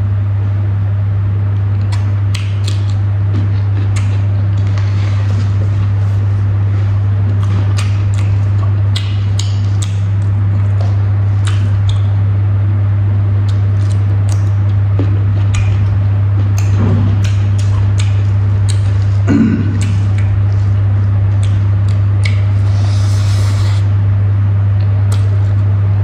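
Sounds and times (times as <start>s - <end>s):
loud low hum: 0.0s - 26.0s
chewing: 1.7s - 12.2s, 13.4s - 23.9s.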